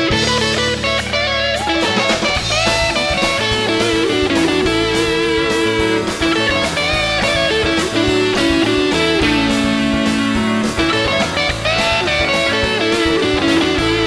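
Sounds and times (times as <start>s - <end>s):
electric guitar melody: 0.0s - 14.0s
rock band instrumental: 0.0s - 14.0s
steady drum beat: 0.0s - 14.0s.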